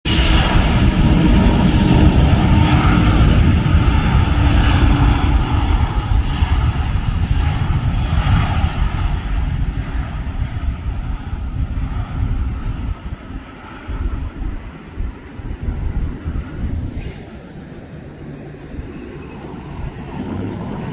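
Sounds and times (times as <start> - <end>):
jet engines roaring at takeoff: 0.1 - 20.9.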